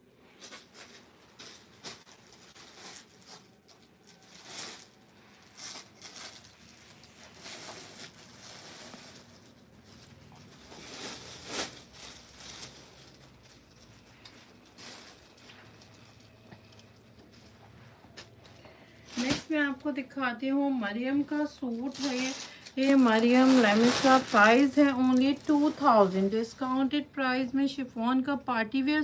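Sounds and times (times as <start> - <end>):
cloth rustling: 0.2 - 18.4, 21.3 - 26.6.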